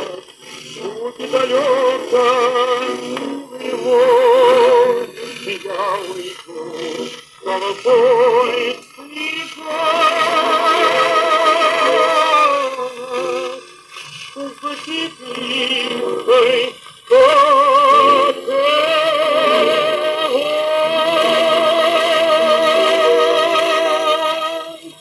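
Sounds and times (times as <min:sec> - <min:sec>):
old romance song on shellac record: 0:00.0 - 0:25.0.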